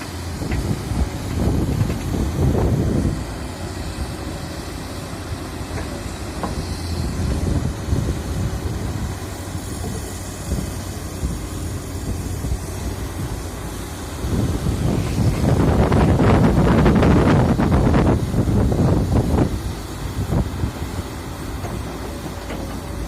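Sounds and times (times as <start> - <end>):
heavy diesel machinery rumbling: 0.0 - 23.0.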